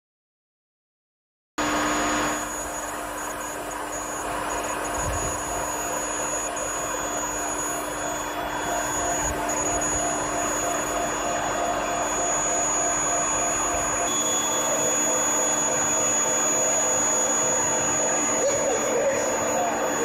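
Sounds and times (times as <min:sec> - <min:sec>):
high-pitched whine: 0:01.6 - 0:20.0
machine hum and hiss: 0:01.6 - 0:20.0.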